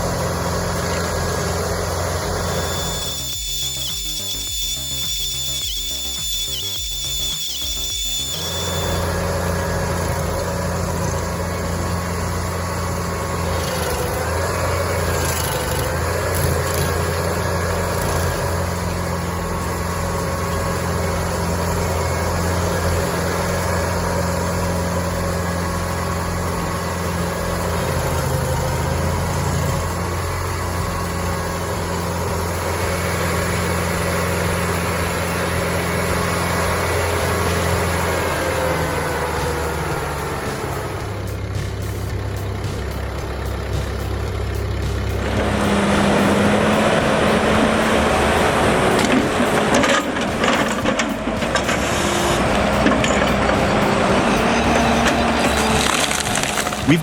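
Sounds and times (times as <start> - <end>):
heavy machinery engine running: 0.0 - 57.0.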